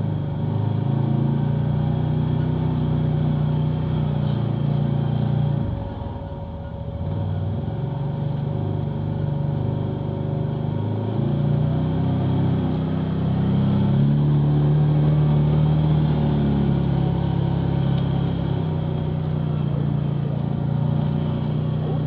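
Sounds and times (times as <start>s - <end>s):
off-road vehicle engine under load: 0.0s - 22.0s.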